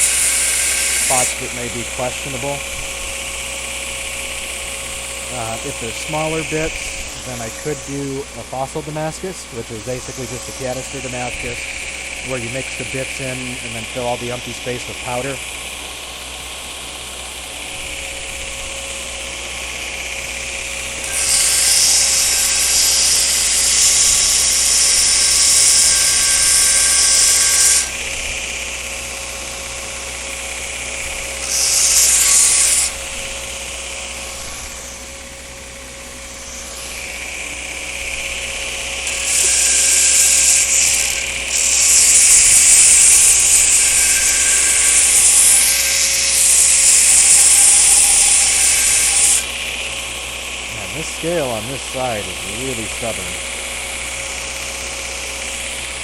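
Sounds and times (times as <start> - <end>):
belt grinder grinding steel: 0.0 - 56.0.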